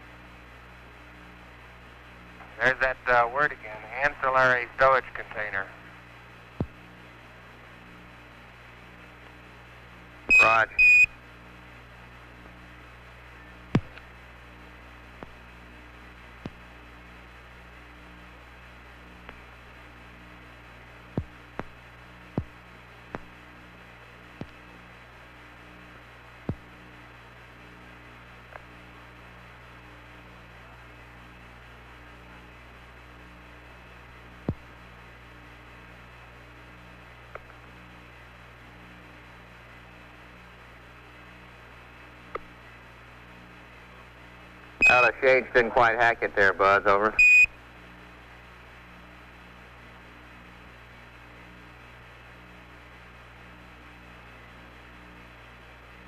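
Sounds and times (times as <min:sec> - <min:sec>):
radio channel hum and hiss: 0:00.0 - 0:56.0.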